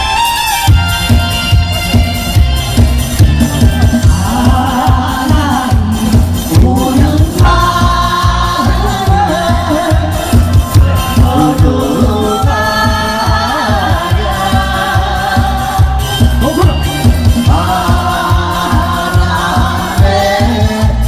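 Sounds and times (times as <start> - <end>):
backing music with steady beat: 0.0 - 21.0
person singing: 4.0 - 21.0.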